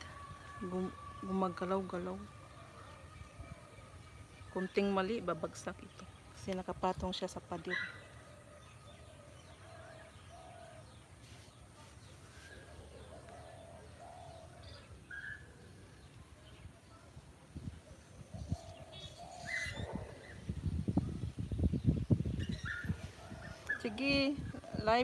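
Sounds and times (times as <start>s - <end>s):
birds calling: 0.0s - 17.2s, 17.8s - 25.0s.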